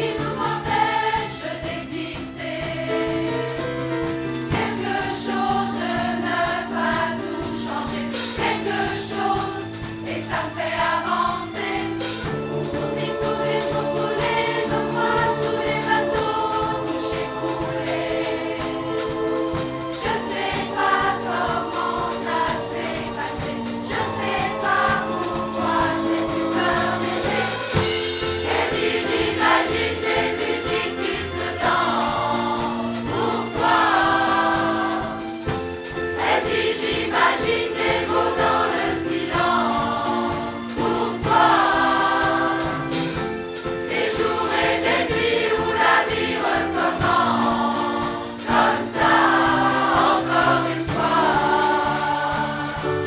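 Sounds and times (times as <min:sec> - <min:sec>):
accompaniment with steady beat: 0:00.0 - 0:53.0
mixed choir singing: 0:00.0 - 0:53.0.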